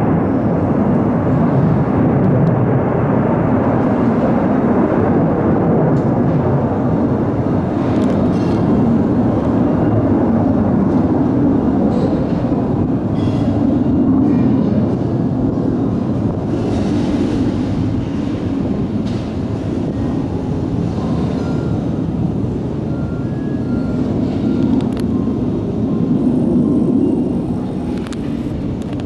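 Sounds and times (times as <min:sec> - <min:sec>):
fighter jet engines roaring: 0:00.0 - 0:29.0.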